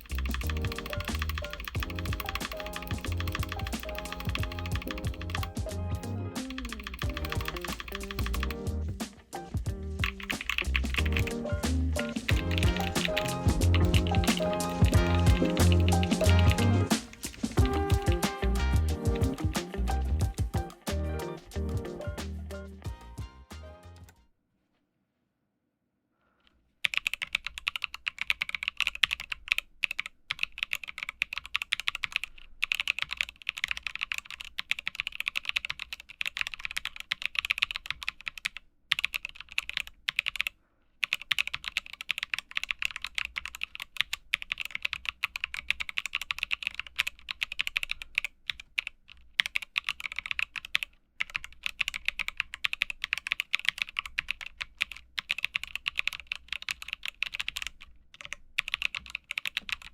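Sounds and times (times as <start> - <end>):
mechanical keyboard typing: 0.0 - 5.7, 6.4 - 8.7, 9.4 - 18.4, 26.8 - 59.9.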